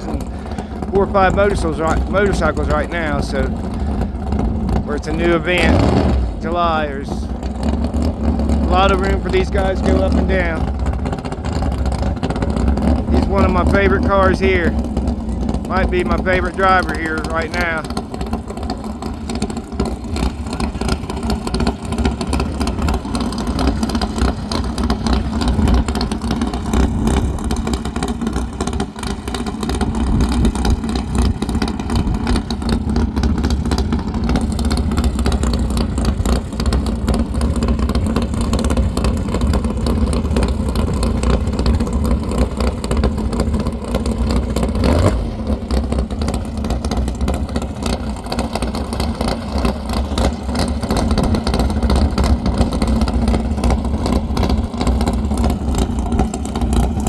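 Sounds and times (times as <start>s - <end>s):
race car engine rumbling: 0.0s - 57.0s.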